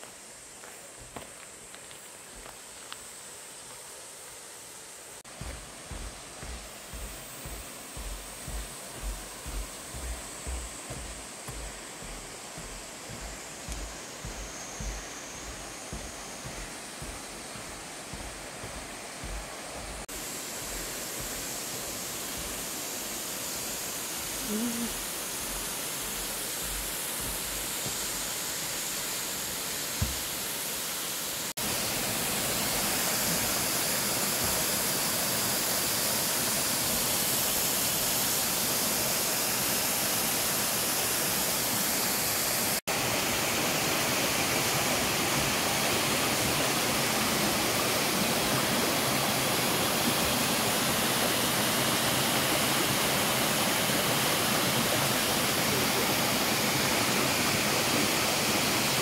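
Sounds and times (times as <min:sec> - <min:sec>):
waterfall rushing: 0:05.2 - 0:59.0.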